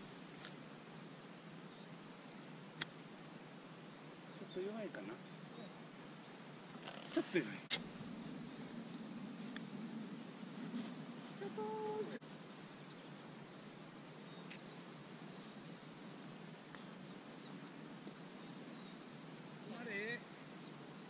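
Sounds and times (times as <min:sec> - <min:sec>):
small birds chirping: 0:00.0 - 0:03.0, 0:03.6 - 0:21.0.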